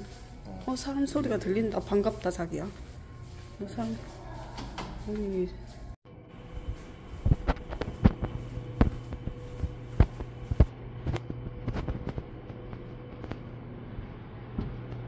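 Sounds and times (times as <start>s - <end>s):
footsteps on stone tiles: 0.0s - 15.0s
steady low hum: 0.0s - 15.0s.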